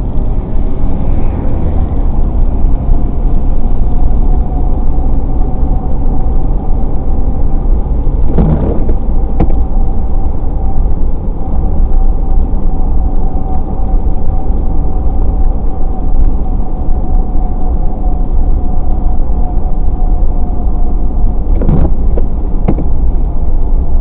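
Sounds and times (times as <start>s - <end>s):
car tyre noise on wet road: 0.0s - 24.0s
thin steady hum: 0.0s - 24.0s.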